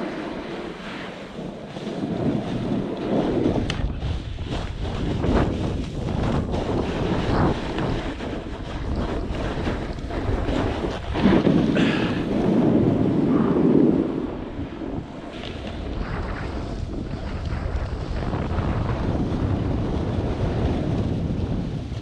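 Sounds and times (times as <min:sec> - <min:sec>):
snowboard scraping over snow: 0:00.0 - 0:22.0
wind buffeting microphone: 0:00.0 - 0:22.0.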